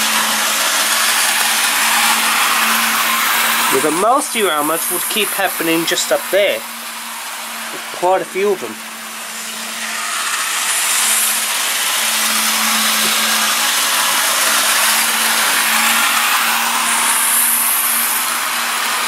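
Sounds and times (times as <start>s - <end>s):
model train motors whirring: 0.0s - 19.0s
wheels rattling on rail: 0.0s - 19.0s.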